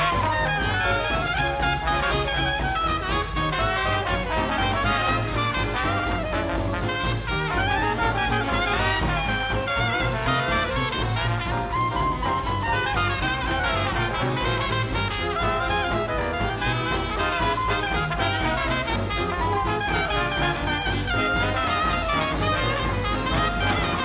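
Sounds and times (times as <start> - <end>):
double bass: 0.0 - 24.0
drums: 0.0 - 24.0
guitar: 0.0 - 24.0
piano: 0.0 - 24.0
trombone: 0.0 - 24.0
trumpet: 0.0 - 24.0.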